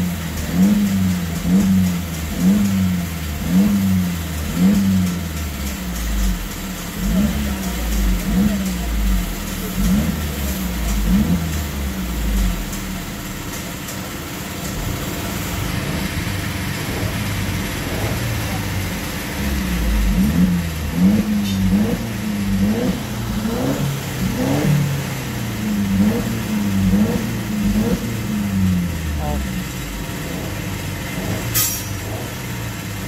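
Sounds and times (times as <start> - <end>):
car engine revving and idling: 0.0 - 33.0.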